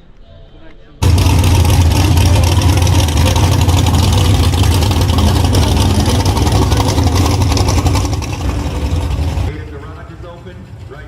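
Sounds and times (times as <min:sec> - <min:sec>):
car engine running: 0:01.0 - 0:11.0.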